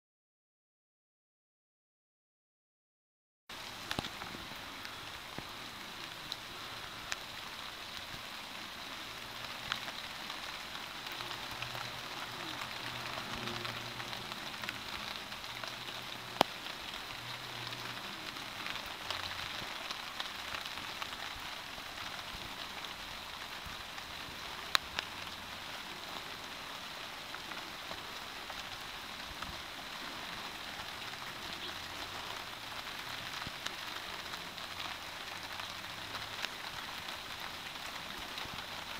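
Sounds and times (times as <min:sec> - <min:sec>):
rain falling on a tarp: 0:03.5 - 0:38.9.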